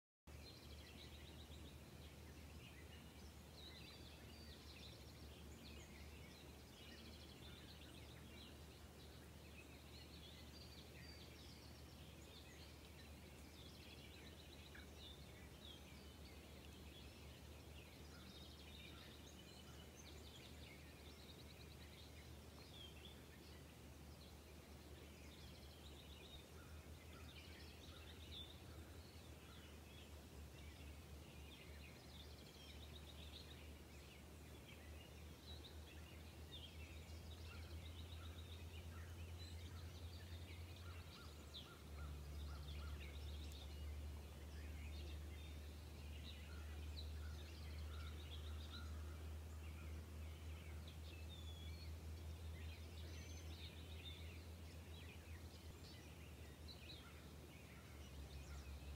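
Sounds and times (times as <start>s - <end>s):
small birds chirping: 0.3s - 58.9s.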